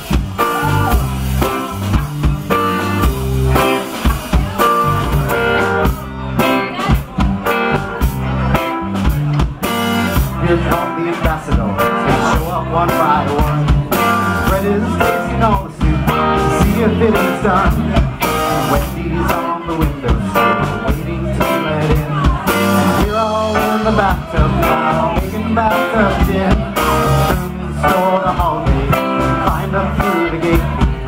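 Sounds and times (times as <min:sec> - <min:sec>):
bass guitar: 0:00.0 - 0:31.0
drums: 0:00.0 - 0:31.0
electric guitar: 0:00.0 - 0:31.0
man singing: 0:00.0 - 0:31.0.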